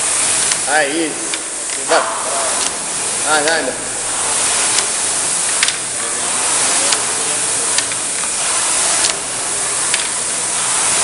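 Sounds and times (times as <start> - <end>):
rowing machine fan whooshing: 0.0 - 11.0.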